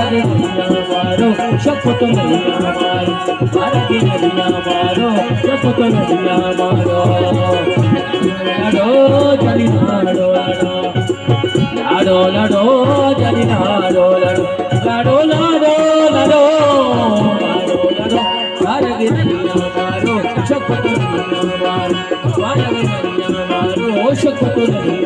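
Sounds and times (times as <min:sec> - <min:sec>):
hand drum beat: 0:00.0 - 0:25.0
man singing: 0:00.0 - 0:25.0
rattling percussion: 0:00.0 - 0:25.0
sustained instrumental tones: 0:00.0 - 0:25.0.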